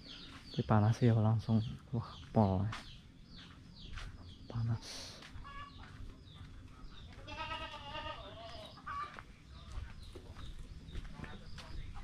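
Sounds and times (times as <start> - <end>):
chickens clucking: 1.5 - 7.3, 8.1 - 12.0.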